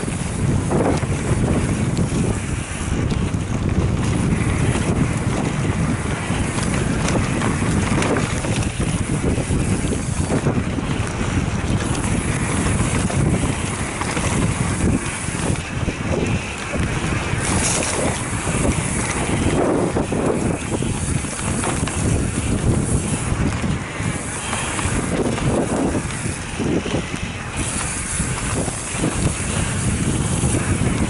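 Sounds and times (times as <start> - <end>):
bike rattling: 0.0 - 31.0
bike tyres rumbling on rocky trail: 0.0 - 31.0
wind buffeting microphone: 0.0 - 31.0.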